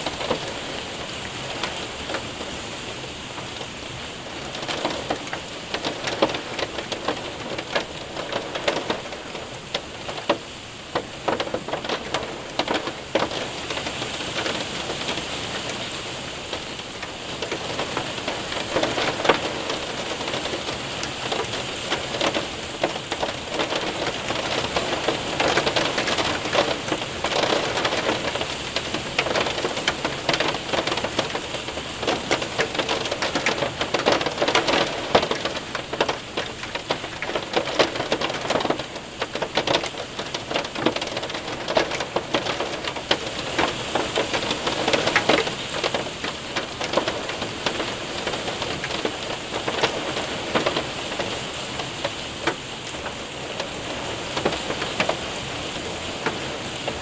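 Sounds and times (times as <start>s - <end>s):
hail and rain on window: 0.0s - 57.0s.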